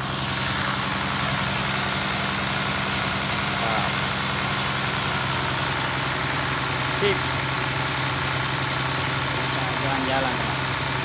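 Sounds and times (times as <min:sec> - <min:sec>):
water pump engine droning: 0:00.0 - 0:11.0.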